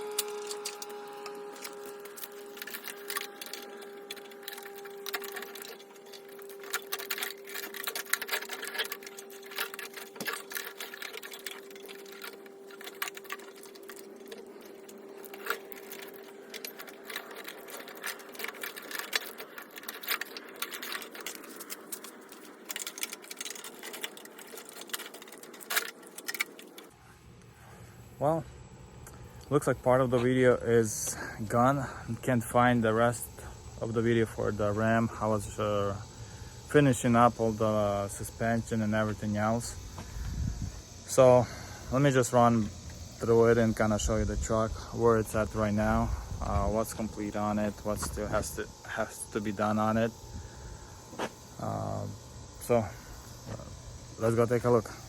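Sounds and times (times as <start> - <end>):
small electric motor whining: 0.0 - 27.0, 30.8 - 55.0.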